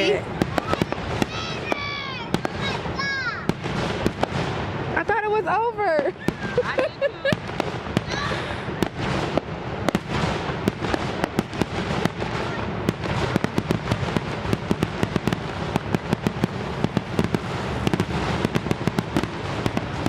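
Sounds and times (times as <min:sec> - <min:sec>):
continuous rumble: 0:00.0 - 0:20.0
fireworks crackling: 0:00.0 - 0:20.0.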